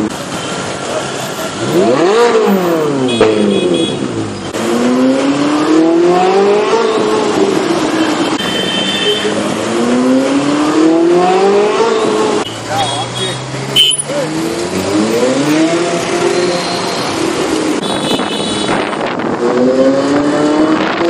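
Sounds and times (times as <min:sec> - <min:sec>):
car engine revving loudly: 0:01.0 - 0:08.3, 0:09.3 - 0:17.9, 0:18.6 - 0:21.0.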